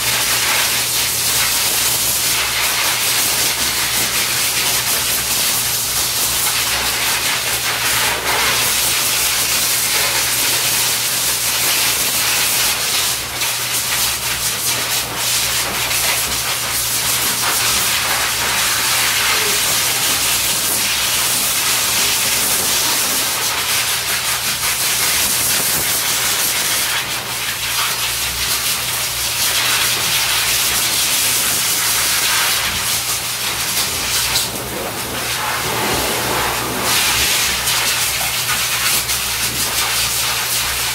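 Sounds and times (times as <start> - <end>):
hose dryer blowing air: 0.0 - 40.9.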